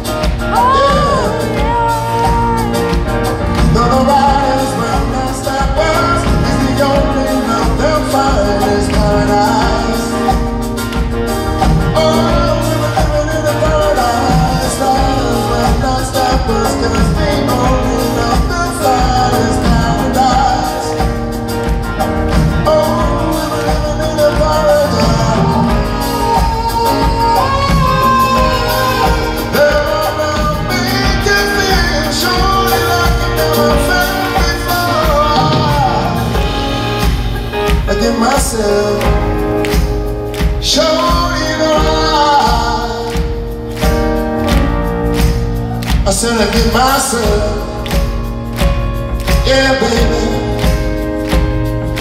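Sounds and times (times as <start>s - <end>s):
man singing: 0.0s - 44.3s, 45.3s - 52.0s
live band music: 0.0s - 52.0s.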